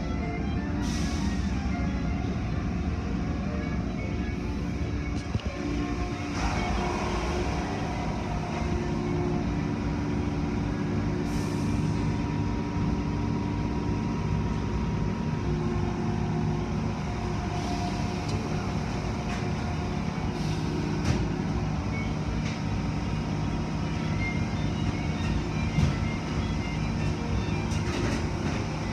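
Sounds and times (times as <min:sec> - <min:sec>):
car wash motors and pumps droning: 0:00.0 - 0:28.9.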